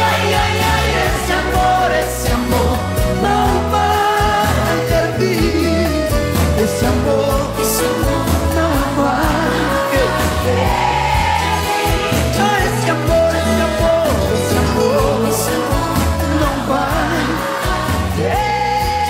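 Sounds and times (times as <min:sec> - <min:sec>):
band with guitars accordion drums: 0:00.0 - 0:19.0
man singing lead vocal: 0:00.0 - 0:19.0.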